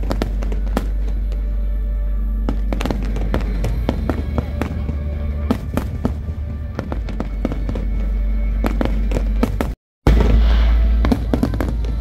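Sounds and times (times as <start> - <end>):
fireworks bursting: 0.0 - 1.5, 2.4 - 12.0
music playing: 0.0 - 12.0.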